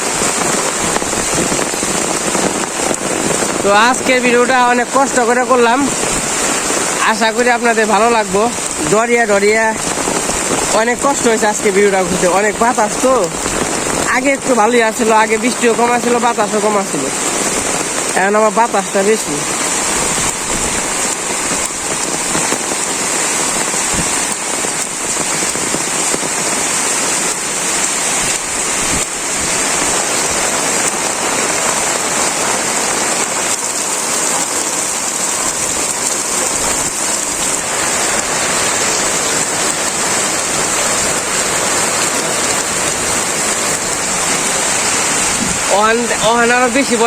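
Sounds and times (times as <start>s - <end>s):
heavy rain pouring: 0.0s - 47.0s
sharp raindrop hits: 0.0s - 47.0s.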